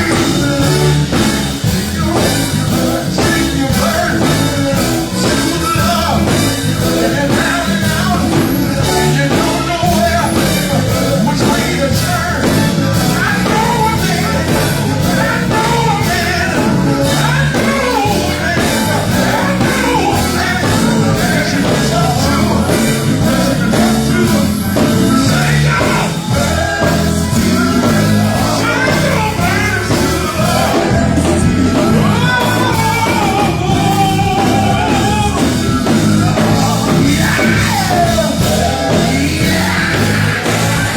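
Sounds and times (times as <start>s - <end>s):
band playing bass drums guitar: 0.0s - 40.9s
gospel group singing: 0.0s - 40.9s.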